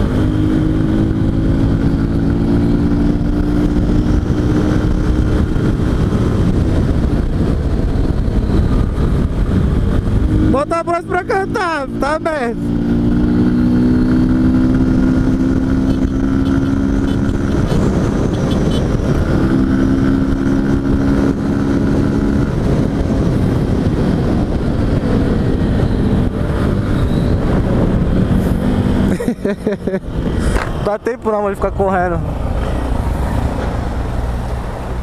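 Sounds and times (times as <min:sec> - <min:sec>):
wind rumble on microphone: 0:00.0 - 0:35.0.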